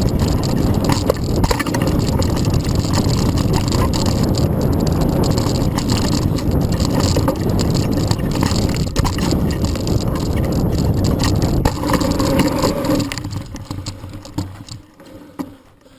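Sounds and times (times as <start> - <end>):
bike rattling knocks: 0.0 - 15.7
bike tyres rumbling over rough ground: 0.0 - 15.9.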